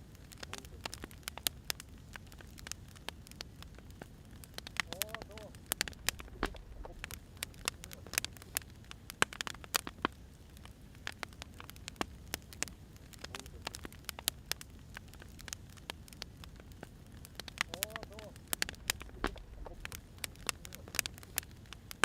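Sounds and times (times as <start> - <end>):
firewood crackling and popping: 0.0 - 22.0
low hiss: 0.0 - 22.0.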